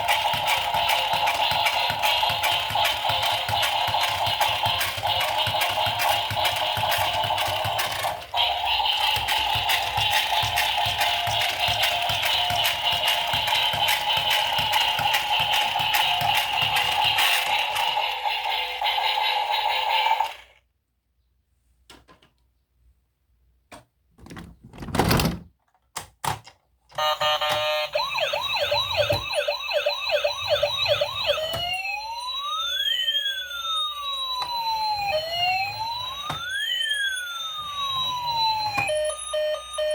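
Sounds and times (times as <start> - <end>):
toy electronic siren: 0.0 - 20.5, 27.0 - 39.9.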